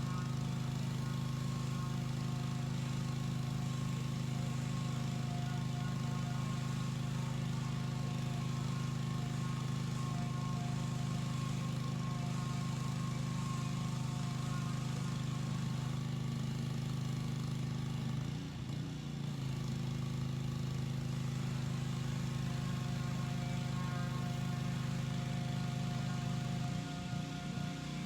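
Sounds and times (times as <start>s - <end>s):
pressure washer motor drone: 0.0s - 28.0s.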